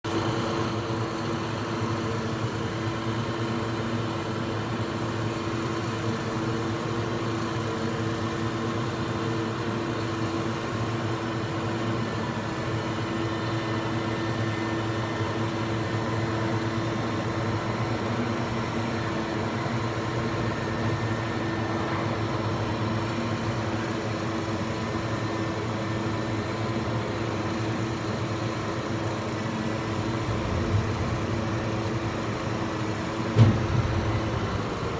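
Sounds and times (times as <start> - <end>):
engine running steadily: 0.1 - 34.9.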